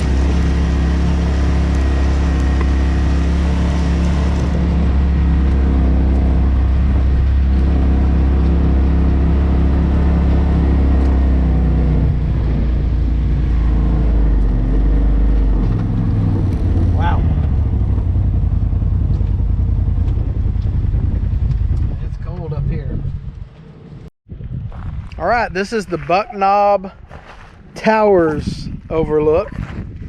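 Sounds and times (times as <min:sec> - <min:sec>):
vehicle engine low drone: 0:00.0 - 0:26.2.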